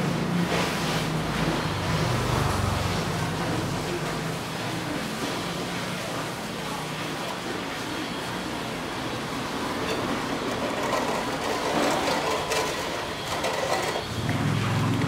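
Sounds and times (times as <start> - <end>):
water boiling in a pot: 0.0 - 15.0.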